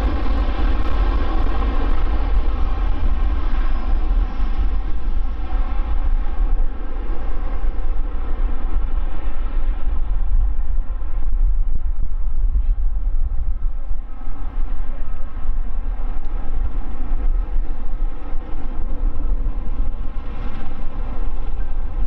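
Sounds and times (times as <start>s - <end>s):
jet engines rumbling at takeoff: 0.0s - 22.0s.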